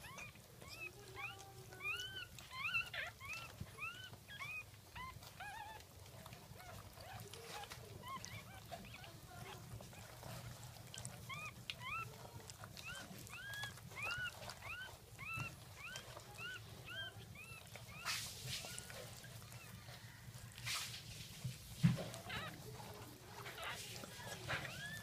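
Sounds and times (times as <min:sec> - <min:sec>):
puppy squeaking: 0:00.0 - 0:20.6, 0:21.9 - 0:25.0.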